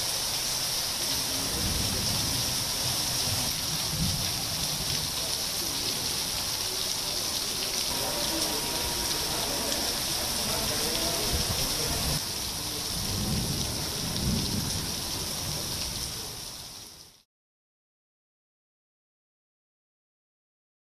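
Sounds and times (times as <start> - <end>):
heavy rain on pavement: 0.0 - 17.3.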